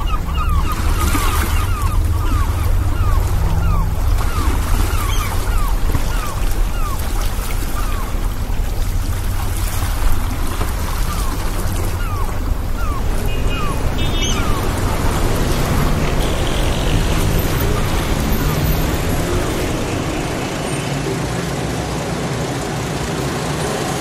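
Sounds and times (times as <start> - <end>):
sea waves rumbling: 0.0 - 24.0.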